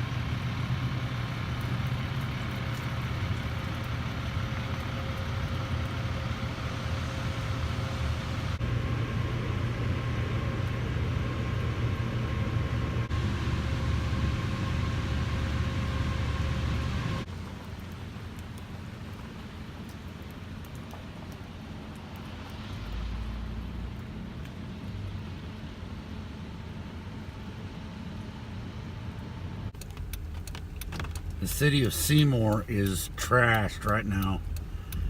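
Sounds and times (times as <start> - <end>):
faint steady hum: 0.0 - 35.0
vehicle engine rumbling: 0.0 - 35.0.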